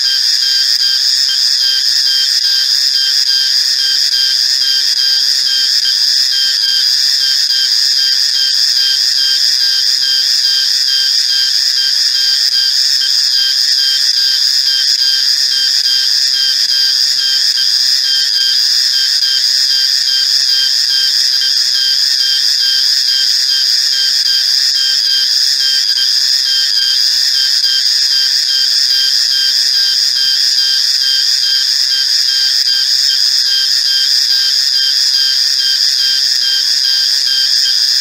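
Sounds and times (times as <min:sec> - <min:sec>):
cicada shrill drone: 0:00.0 - 0:38.0.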